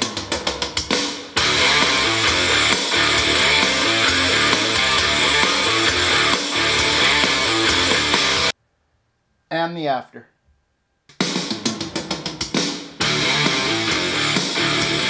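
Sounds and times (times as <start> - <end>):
guitar music through speakers: 0.0 - 8.5, 11.2 - 15.0.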